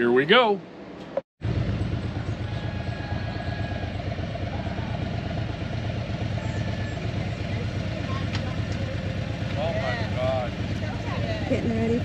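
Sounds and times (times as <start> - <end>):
motorcycles idling: 1.4 - 12.0.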